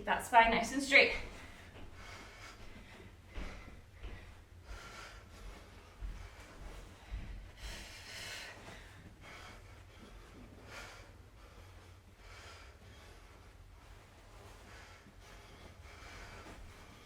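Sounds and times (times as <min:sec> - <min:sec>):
heavy breathing: 0:01.2 - 0:17.0.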